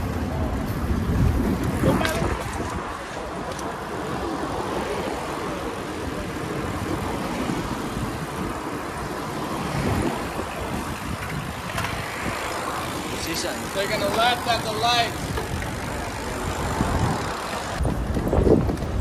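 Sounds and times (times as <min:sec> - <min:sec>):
bicycle tyres rolling on asphalt: 0:00.0 - 0:19.0
wind on microphone: 0:00.0 - 0:19.0.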